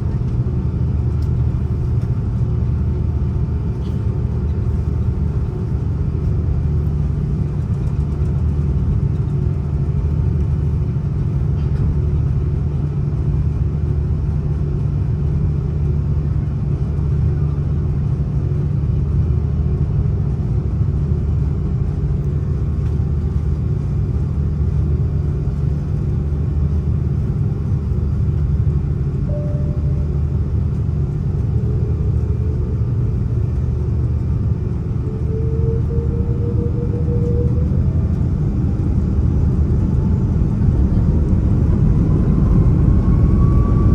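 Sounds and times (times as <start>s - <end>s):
aircraft cabin engine drone: 0.0s - 43.9s.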